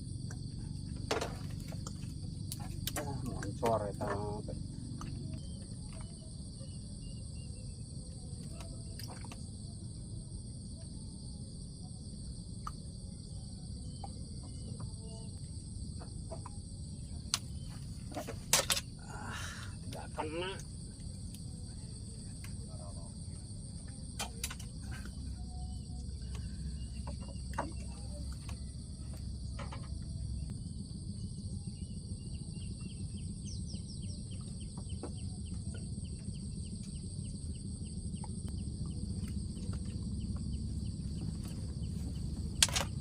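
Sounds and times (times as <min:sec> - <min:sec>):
insects chirping chorus: 0:00.0 - 0:43.0
low outdoor rumble: 0:00.0 - 0:43.0.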